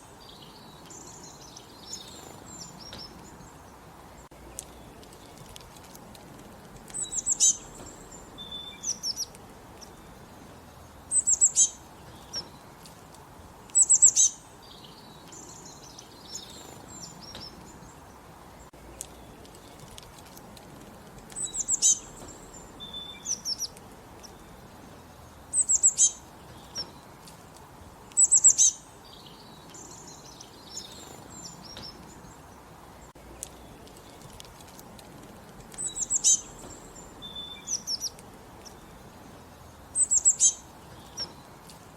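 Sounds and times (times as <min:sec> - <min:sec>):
low background hiss: 0:00.0 - 0:41.9
songbirds chirping: 0:00.0 - 0:41.9.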